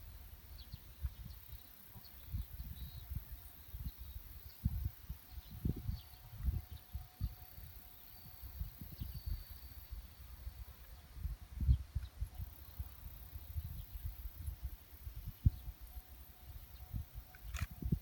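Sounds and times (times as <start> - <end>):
faint high chirping: 0.0 - 18.0
wind buffeting microphone: 0.0 - 18.0.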